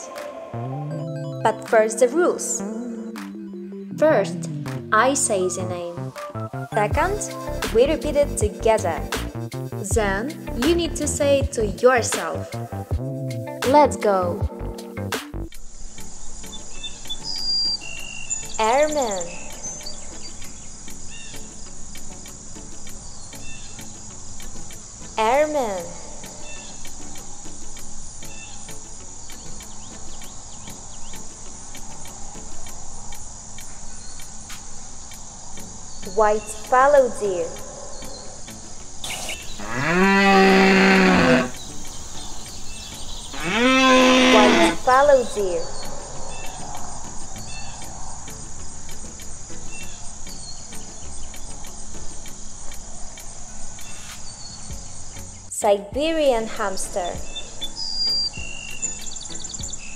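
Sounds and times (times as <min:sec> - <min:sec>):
insect chorus chirping: 0:05.1 - 0:10.6, 0:14.5 - 0:55.6, 0:56.2 - 0:59.9.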